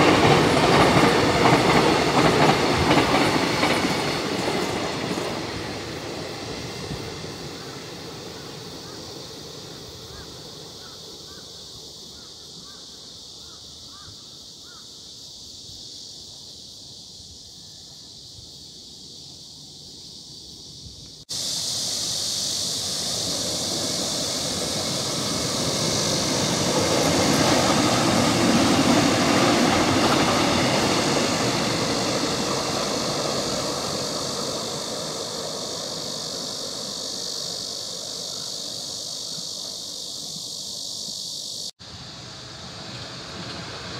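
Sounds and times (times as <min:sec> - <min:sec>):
train wheels rushing on track: 0:00.0 - 0:12.8, 0:21.2 - 0:43.9
insects buzzing: 0:00.0 - 0:43.9.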